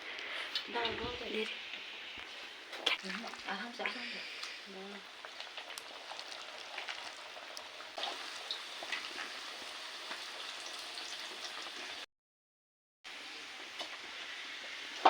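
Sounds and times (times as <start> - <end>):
oil crackling and popping: 0.0 - 12.0, 13.5 - 15.0
food sizzling in hot oil: 0.0 - 12.1, 13.1 - 15.0.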